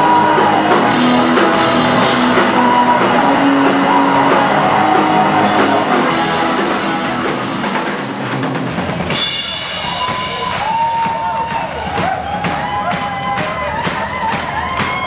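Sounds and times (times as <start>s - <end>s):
bass guitar: 0.0s - 13.0s
crowd cheering: 0.0s - 15.0s
drum kit: 0.0s - 15.0s
rock band playing loudly: 0.0s - 15.0s.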